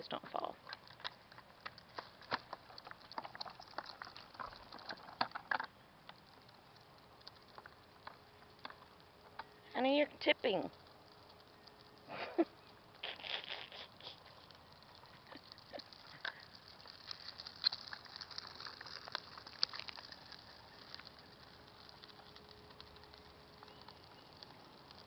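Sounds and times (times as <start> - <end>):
plastic tricycle rolling on asphalt: 0.0 - 25.0.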